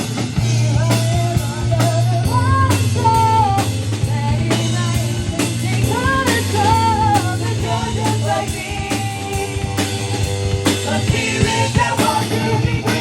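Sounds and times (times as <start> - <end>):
rock song: 0.0 - 13.0.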